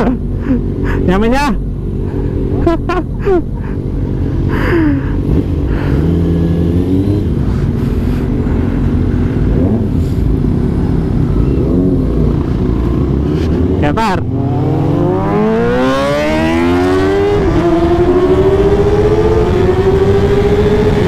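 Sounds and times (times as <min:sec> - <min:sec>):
motorcycle engine revving: 0:03.8 - 0:21.0.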